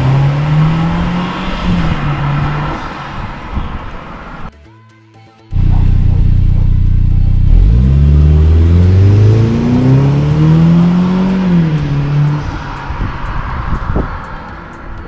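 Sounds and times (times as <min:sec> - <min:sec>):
car engine idling and revving: 0:00.0 - 0:04.5, 0:05.5 - 0:15.0.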